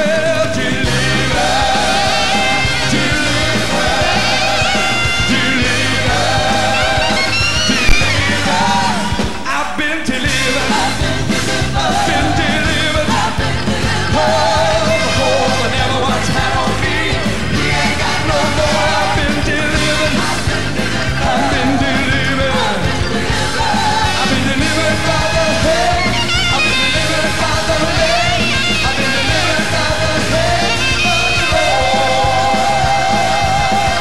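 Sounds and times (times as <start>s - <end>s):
worship band playing: 0.0s - 34.0s.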